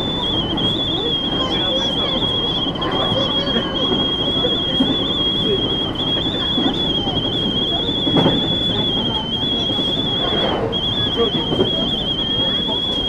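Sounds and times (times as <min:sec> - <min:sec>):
electric train rumble: 0:00.0 - 0:13.0
faint voices: 0:00.0 - 0:13.0
high-pitched whine: 0:00.0 - 0:13.0.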